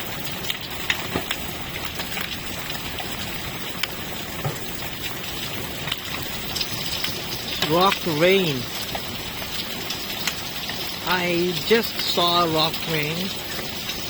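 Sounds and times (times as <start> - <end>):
hailstones ticking on pavement: 0.0 - 14.0
rain hissing: 0.0 - 14.0.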